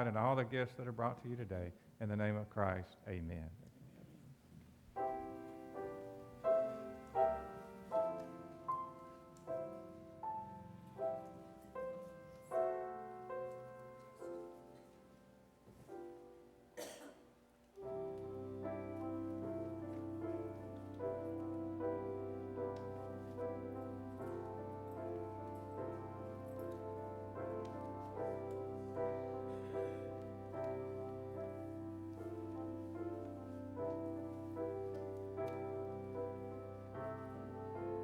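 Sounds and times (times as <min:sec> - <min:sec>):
piano melody: 0:00.0 - 0:03.2, 0:04.9 - 0:17.0, 0:17.6 - 0:38.0.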